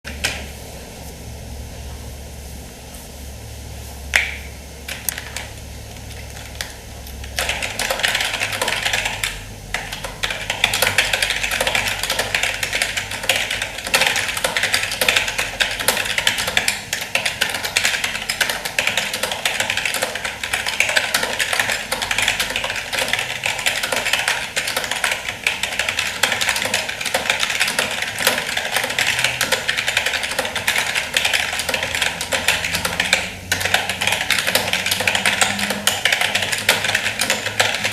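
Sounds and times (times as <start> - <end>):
fast keyboard typing: 4.2 - 37.9.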